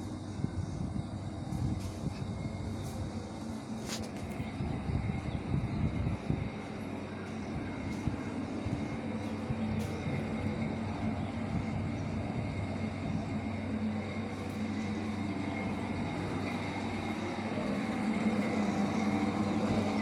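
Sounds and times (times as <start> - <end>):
faint constant hum: 0.0 - 20.0
mechanical rumble: 0.0 - 20.0.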